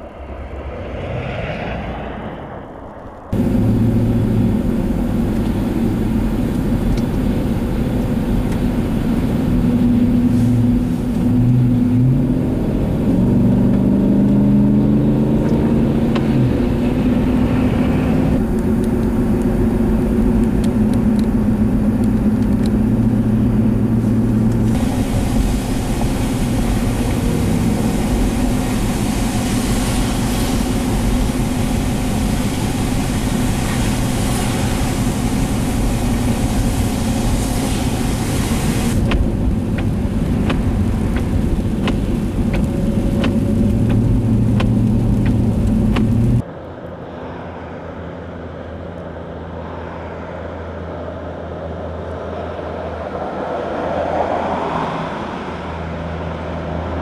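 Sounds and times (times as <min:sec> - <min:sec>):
car engine: 0:00.0 - 0:57.0
road noise: 0:00.0 - 0:57.0.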